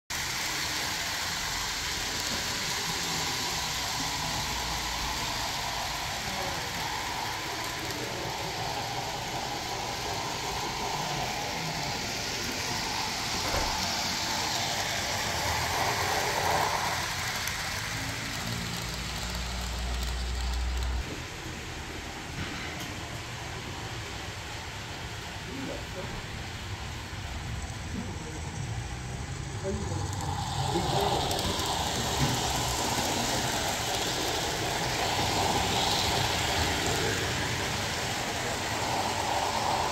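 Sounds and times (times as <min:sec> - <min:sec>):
model train mechanical noise: 0:00.1 - 0:39.9.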